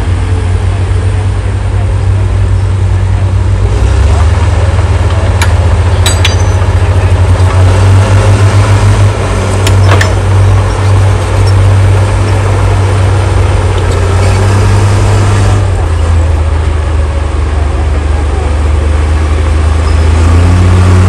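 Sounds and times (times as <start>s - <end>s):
heavy diesel engines rumbling: 0.0s - 21.0s.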